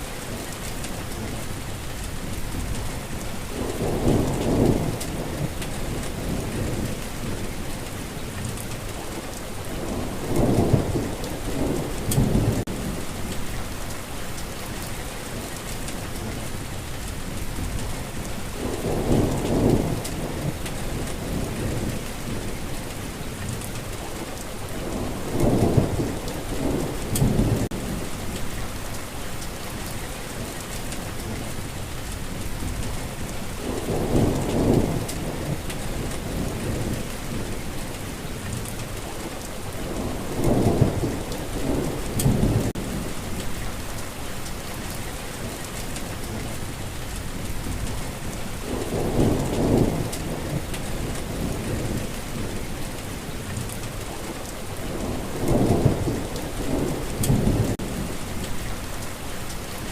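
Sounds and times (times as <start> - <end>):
steady rain falling: 0.0 - 59.9
rolling thunder rumbles: 0.1 - 59.9.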